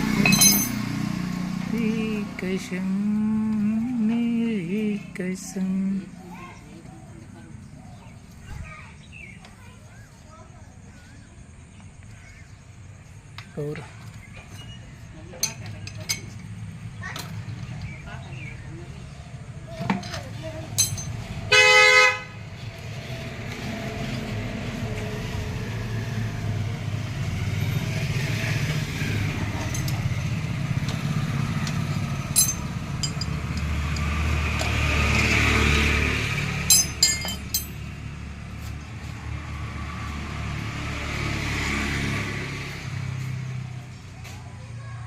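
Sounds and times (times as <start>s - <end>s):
vehicle passing: 0.0s - 11.2s, 16.3s - 45.0s
road traffic: 0.0s - 45.0s.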